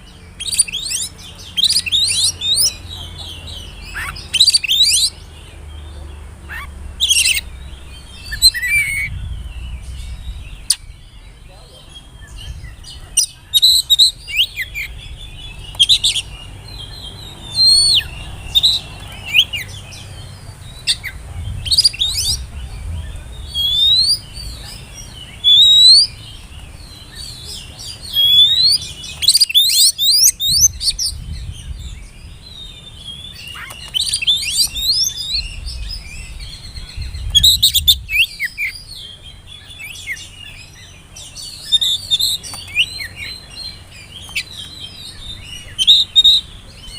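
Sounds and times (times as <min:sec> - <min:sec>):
bird singing whistled notes: 0:00.0 - 0:46.9.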